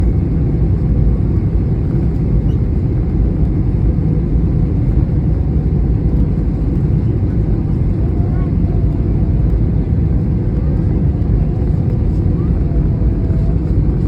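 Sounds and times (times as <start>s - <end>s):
airplane rumble: 0.0s - 14.0s.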